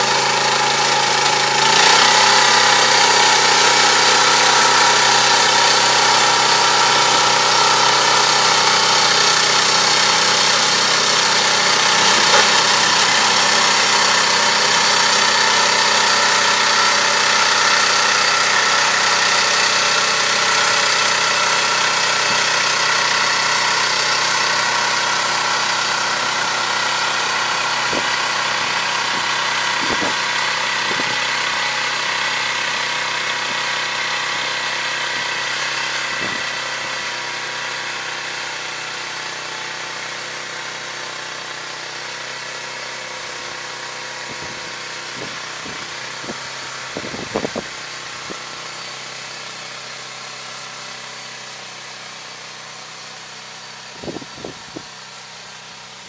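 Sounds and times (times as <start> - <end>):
crop sprayer engine running: 0.0 - 56.0.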